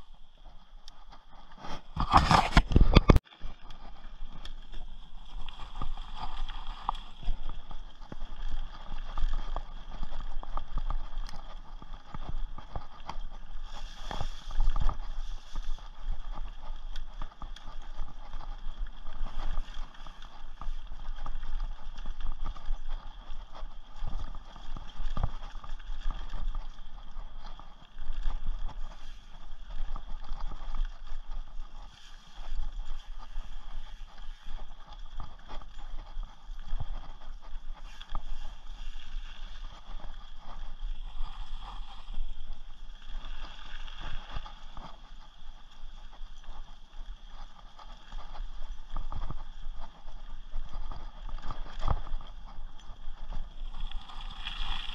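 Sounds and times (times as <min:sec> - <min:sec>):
bike tyres on dirt and leaves: 0:00.0 - 0:54.9.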